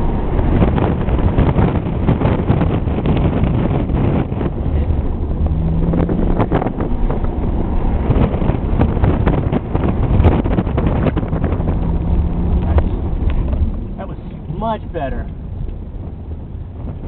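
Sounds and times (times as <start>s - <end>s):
car engine deep rumble: 0.0s - 17.0s
wind buffeting microphone: 0.0s - 17.0s.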